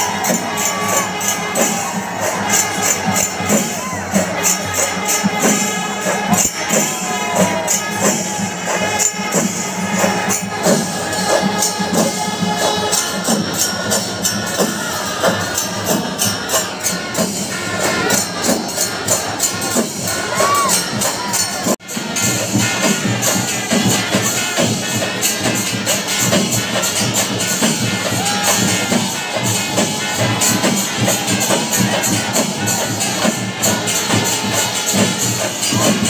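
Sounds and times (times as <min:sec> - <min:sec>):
drums: 0:00.0 - 0:36.0
hand cymbals clashing: 0:00.0 - 0:36.0
large crowd noise: 0:00.0 - 0:36.0.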